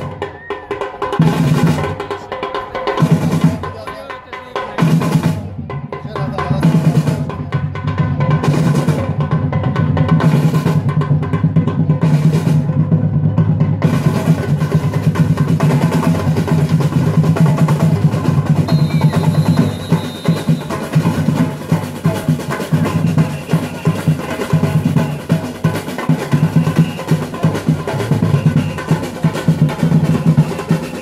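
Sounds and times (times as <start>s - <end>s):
samba drum ensemble: 0.0s - 31.0s.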